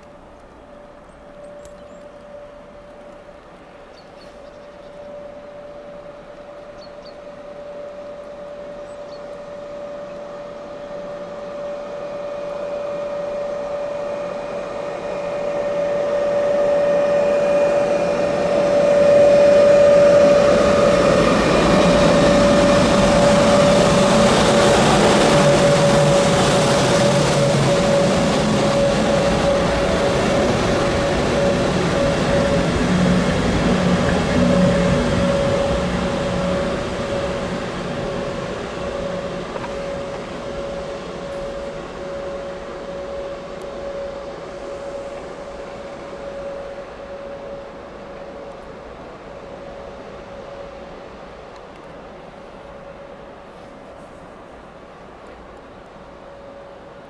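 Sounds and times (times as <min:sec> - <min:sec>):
locomotive whine: 0:00.0 - 0:57.0
wheels rumbling and clattering on rails: 0:00.0 - 0:57.0.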